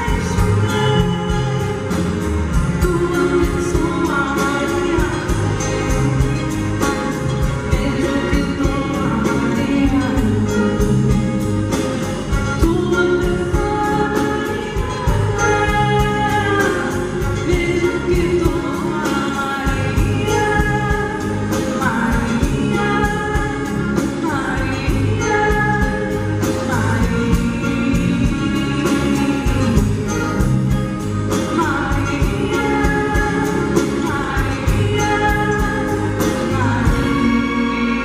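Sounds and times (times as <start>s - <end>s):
band playing with steady beat: 0.0s - 38.0s
woman singing into a microphone: 0.0s - 38.0s.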